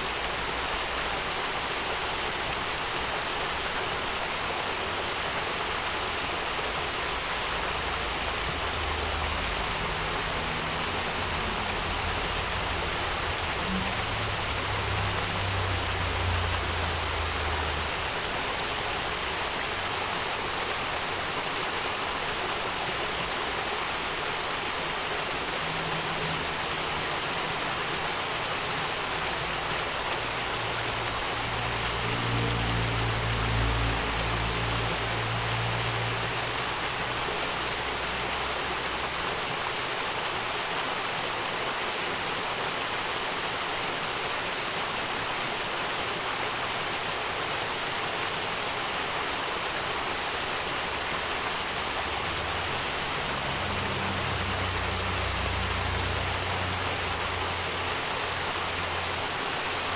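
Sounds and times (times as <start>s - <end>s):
mountain stream rushing: 0.0s - 59.9s
water pouring over water wheel: 0.0s - 59.9s.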